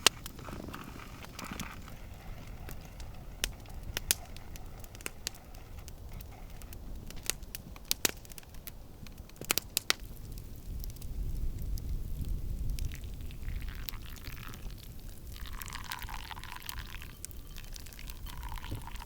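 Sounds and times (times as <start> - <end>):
campfire crackling: 0.0 - 19.0
fire pops and snaps: 0.0 - 19.0.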